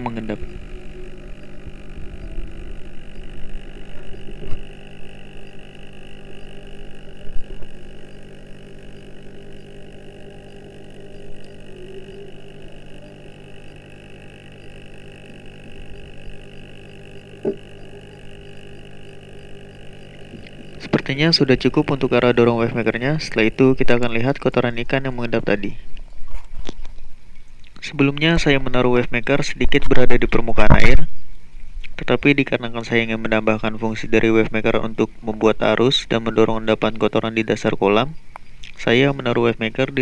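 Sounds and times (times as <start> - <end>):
pond pump hum underwater: 0.0 - 40.0.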